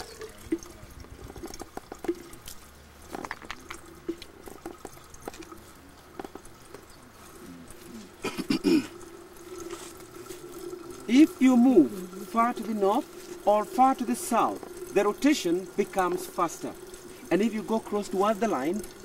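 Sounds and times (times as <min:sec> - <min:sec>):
water drips: 0:00.0 - 0:19.0
water trickling into plastic jug: 0:00.0 - 0:19.0.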